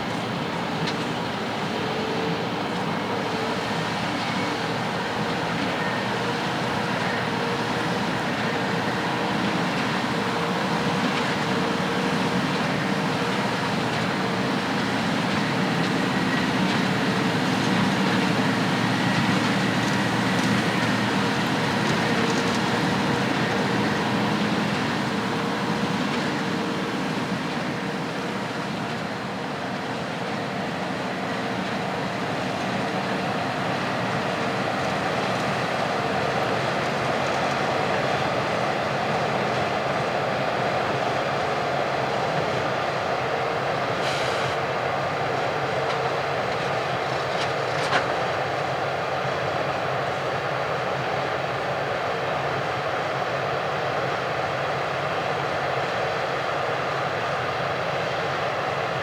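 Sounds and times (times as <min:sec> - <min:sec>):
farm machinery engine drone: 0:00.0 - 0:59.0.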